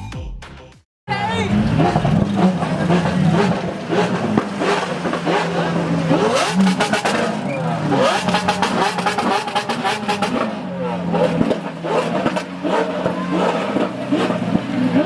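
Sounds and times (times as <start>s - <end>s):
car engines running: 1.1s - 15.0s
crowd chatter: 1.1s - 15.0s.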